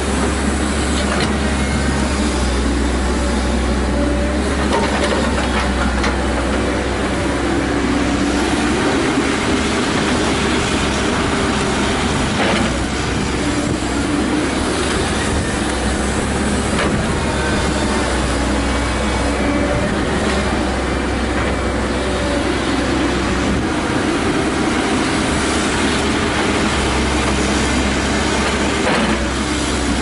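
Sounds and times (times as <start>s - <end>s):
excavator running under load: 0.0s - 30.0s.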